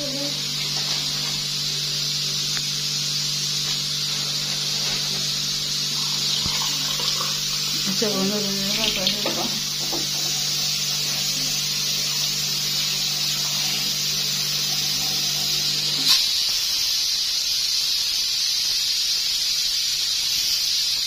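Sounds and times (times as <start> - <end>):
pressure cooker steam hissing: 0.0 - 21.0.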